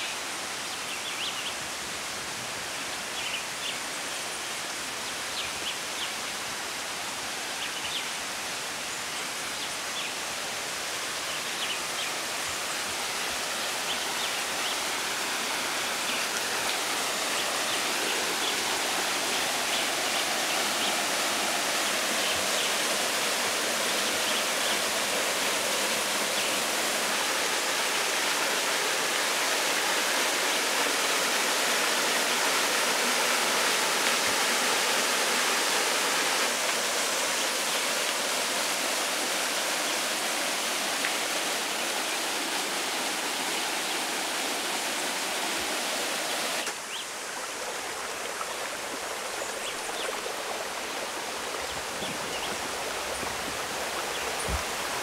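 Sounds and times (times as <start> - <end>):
stream trickling over rocks: 0.0 - 55.0
waterfall splashing into pool: 5.0 - 55.0.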